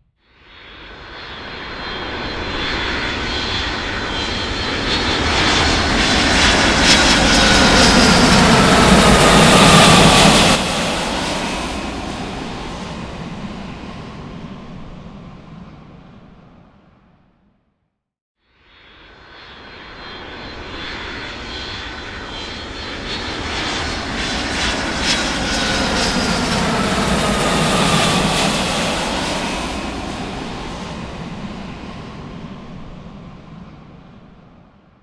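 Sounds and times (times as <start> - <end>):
aircraft engines flying past: 0.4 - 17.4, 18.7 - 35.0.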